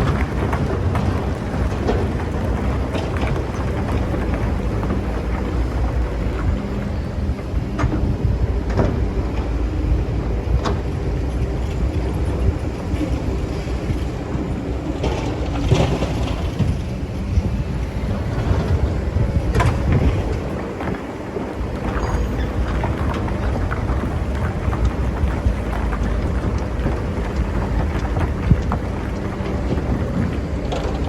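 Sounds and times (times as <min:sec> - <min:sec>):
excavator engine rumbling: 0:00.0 - 0:31.0.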